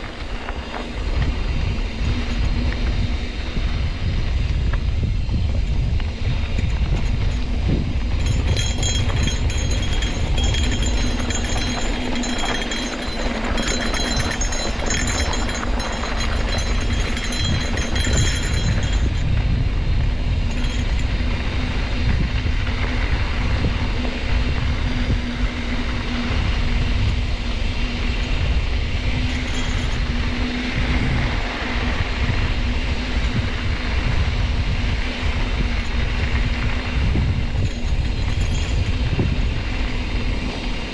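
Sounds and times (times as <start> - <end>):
bike tyres rumbling on dirt: 0.0 - 40.9
wind on microphone: 0.0 - 40.9.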